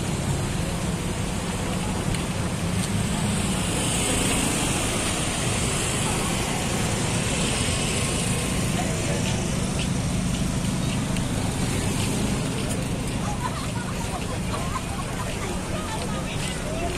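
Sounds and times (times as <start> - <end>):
crowd voices: 0.0 - 16.9
idling traffic: 0.0 - 16.9.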